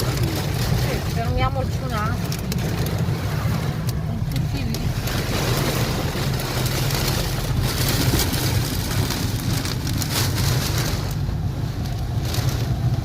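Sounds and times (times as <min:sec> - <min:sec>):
constant low rumble: 0:00.0 - 0:13.0
heavy rain pouring: 0:00.0 - 0:13.0.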